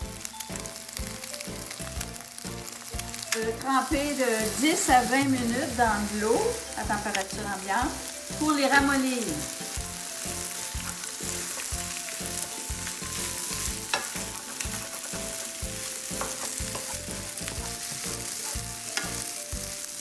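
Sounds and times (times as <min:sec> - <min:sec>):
noodles and egg sizzling in pan: 0:00.0 - 0:20.0.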